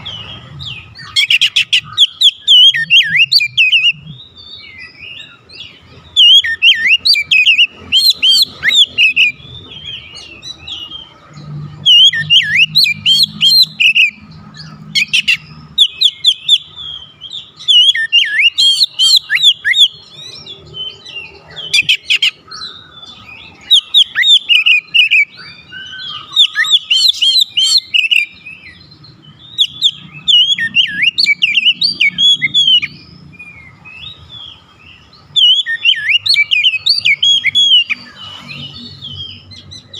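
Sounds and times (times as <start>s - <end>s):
bird singing whistles and chatters: 0.0s - 39.9s.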